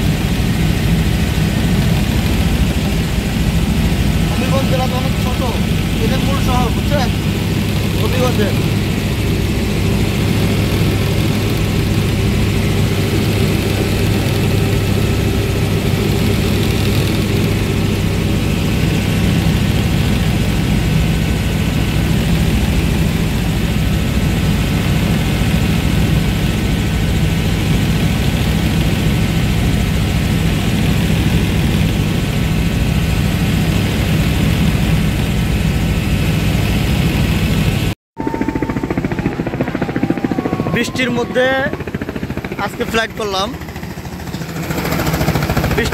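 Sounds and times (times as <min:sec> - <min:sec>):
helicopter cabin drone: 0:00.0 - 0:45.9.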